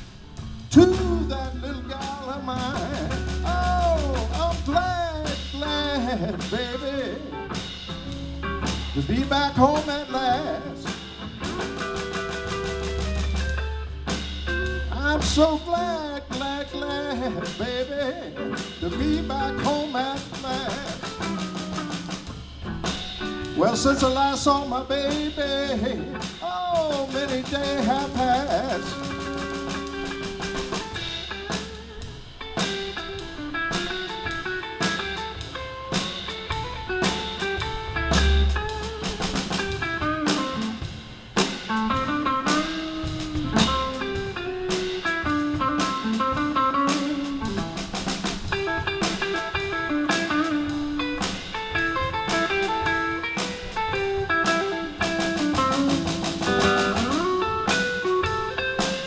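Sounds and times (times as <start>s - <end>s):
bass guitar: 0.0s - 59.0s
drums: 0.0s - 59.0s
lead guitar bending notes: 0.0s - 59.0s.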